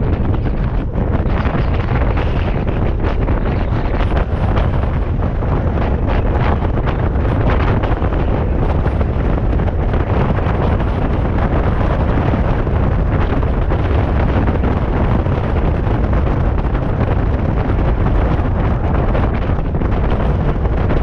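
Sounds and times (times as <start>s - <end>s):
car road rumble: 0.0s - 21.0s
wind buffeting microphone: 0.0s - 21.0s.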